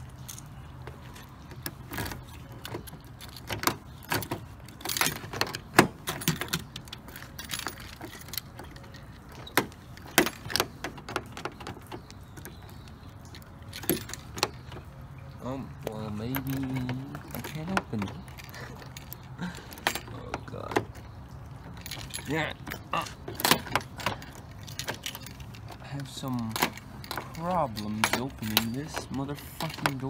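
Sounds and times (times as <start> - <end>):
keys jangling on key ring: 0.0 - 30.0.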